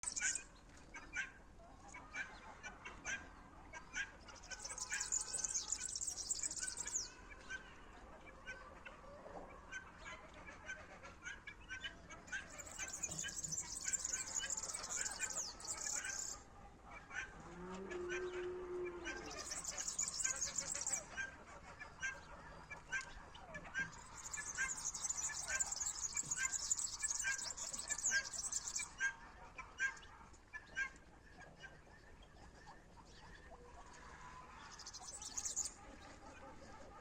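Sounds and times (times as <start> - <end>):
songbird chirping and twittering: 0.0 - 8.4, 11.4 - 17.0, 17.6 - 36.2.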